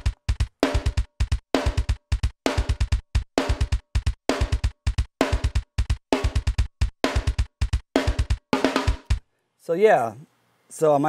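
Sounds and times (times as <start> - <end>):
rapid double bass drum hits: 0.0 - 9.2
snare drum: 0.0 - 9.2.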